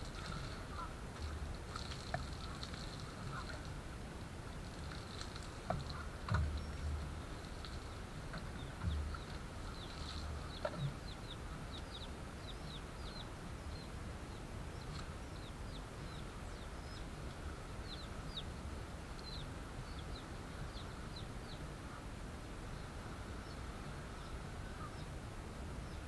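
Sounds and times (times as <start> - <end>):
small birds chirping: 0.0 - 3.8, 4.5 - 22.1, 22.7 - 25.2
low background rumble: 0.0 - 26.0.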